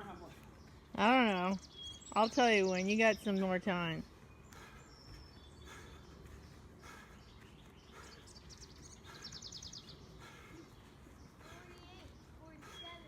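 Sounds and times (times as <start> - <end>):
bird chirping trill: 0.0 - 13.0.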